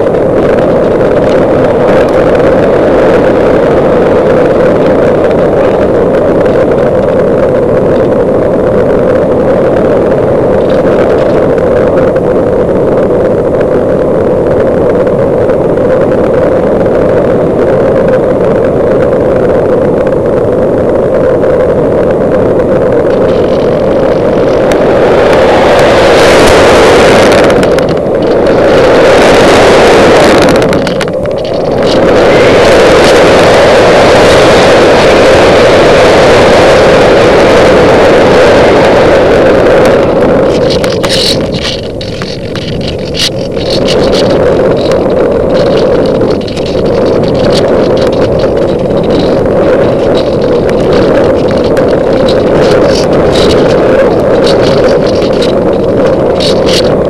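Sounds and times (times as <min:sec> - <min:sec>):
electric motor and propeller drone: 0:00.0 - 0:57.0
rushing air: 0:00.0 - 0:57.0.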